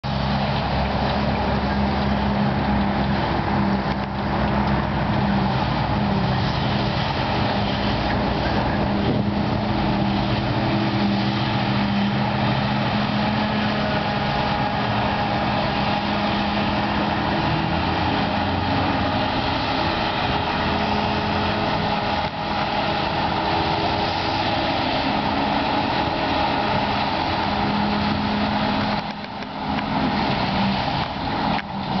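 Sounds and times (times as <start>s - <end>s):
forage harvester engine running: 0.0s - 32.0s
harvester chopping grass: 0.1s - 32.0s.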